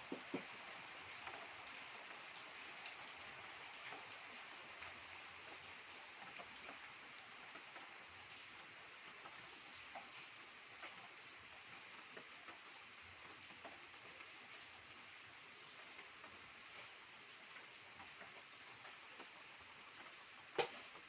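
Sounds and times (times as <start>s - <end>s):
faint steady rain: 0.0s - 21.0s
raindrop ticks: 0.0s - 21.0s.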